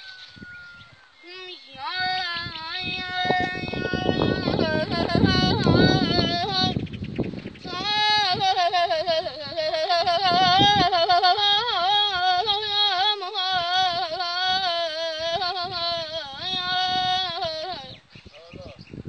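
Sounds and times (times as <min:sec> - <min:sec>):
boy singing unaccompanied: 0:01.2 - 0:06.9, 0:07.6 - 0:18.8.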